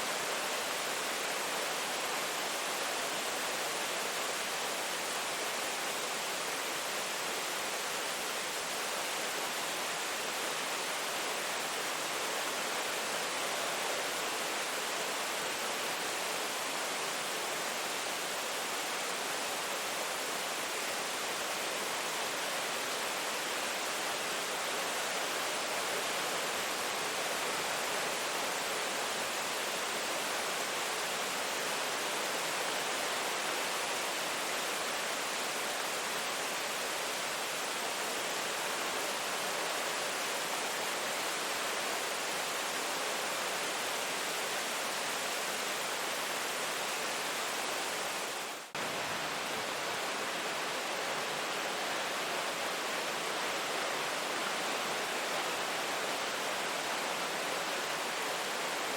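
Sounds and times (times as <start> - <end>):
heavy rain hiss: 0.0 - 58.9.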